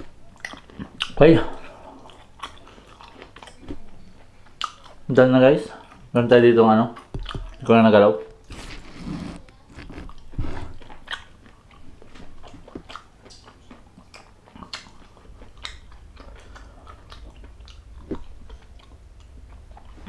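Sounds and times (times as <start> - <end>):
chewing and mouth sounds: 0.0 - 5.0, 6.9 - 7.8, 8.5 - 20.0.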